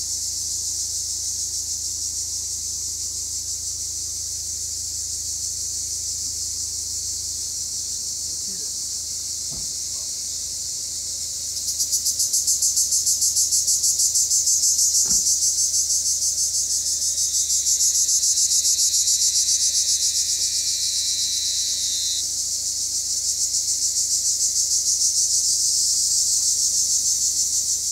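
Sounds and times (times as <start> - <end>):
cicadas buzzing: 0.0 - 27.9.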